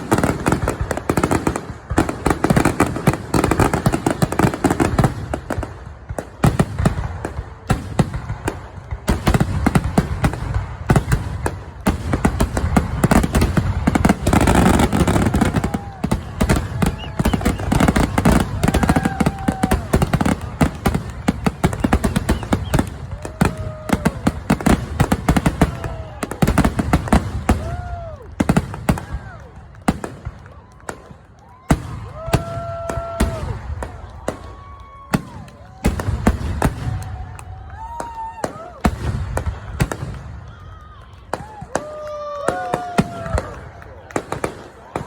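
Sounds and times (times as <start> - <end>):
fireworks booming and crackling: 0.0 - 45.0.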